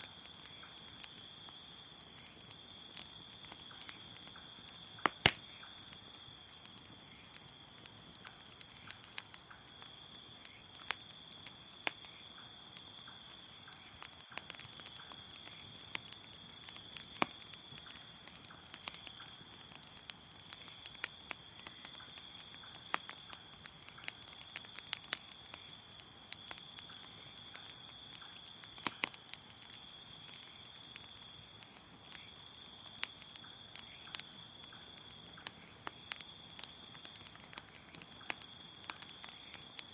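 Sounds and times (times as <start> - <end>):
bonfire crackling: 0.0 - 39.9
crickets chirping: 0.0 - 39.9.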